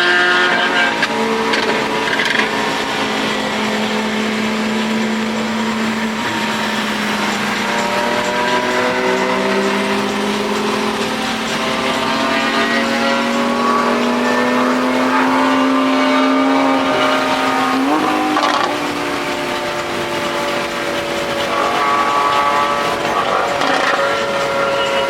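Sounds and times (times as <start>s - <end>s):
sports car engine revving: 0.0s - 25.0s.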